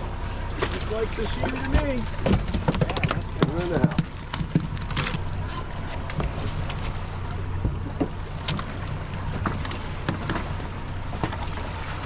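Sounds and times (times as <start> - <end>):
outboard motor idling: 0.0 - 12.0
water noise: 0.0 - 12.0.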